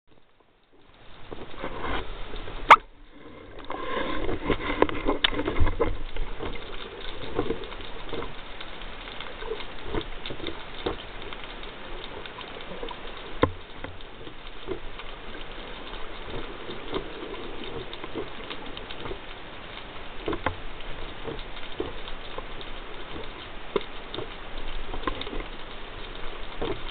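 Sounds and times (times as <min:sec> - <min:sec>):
small crackles: 0:00.1 - 0:26.9
underwater wash of water: 0:00.2 - 0:26.9.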